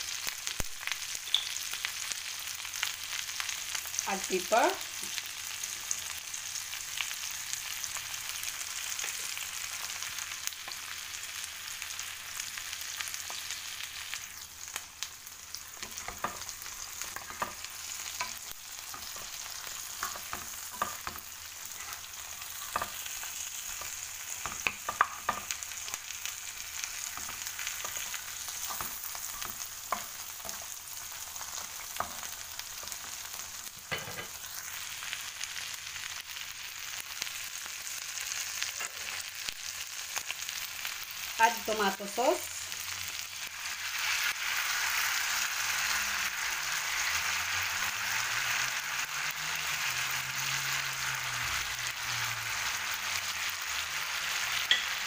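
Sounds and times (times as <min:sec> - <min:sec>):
prawns sizzling in a pan: 0:00.0 - 0:55.0.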